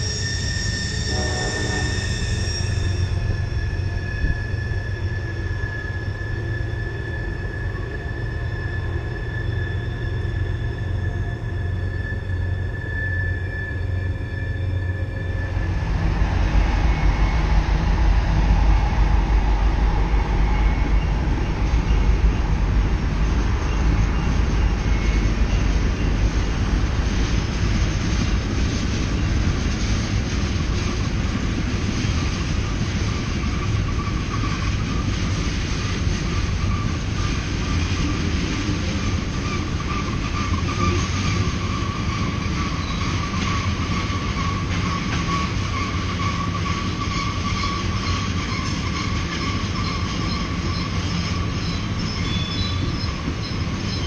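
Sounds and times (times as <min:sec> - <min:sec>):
freight train rumbling: 0:00.0 - 0:54.0
train wheels squealing: 0:00.0 - 0:54.0.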